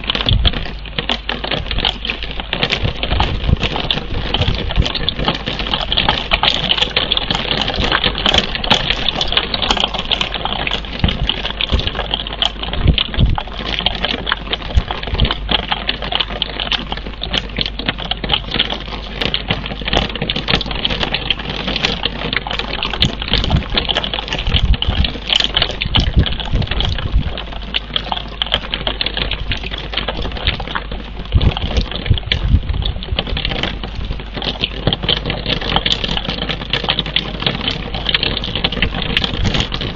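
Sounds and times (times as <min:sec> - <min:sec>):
rain pattering on microphone: 0:00.0 - 0:39.9.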